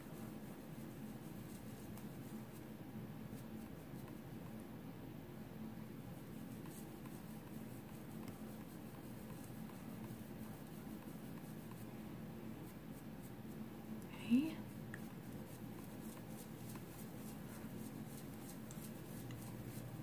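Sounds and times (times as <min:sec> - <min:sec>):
makeup brush strokes: 0:00.0 - 0:04.5, 0:06.2 - 0:20.0.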